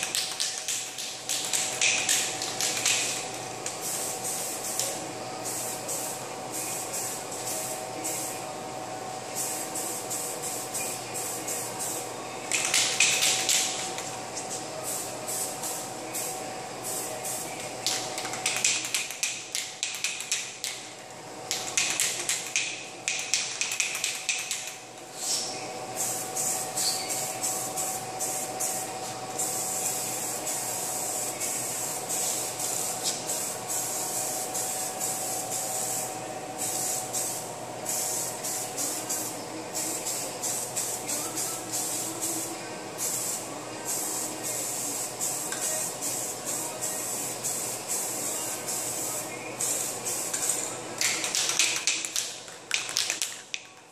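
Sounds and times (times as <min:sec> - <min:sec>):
spray paint can hissing: 0:00.0 - 0:08.3, 0:09.4 - 0:20.8, 0:21.5 - 0:53.3.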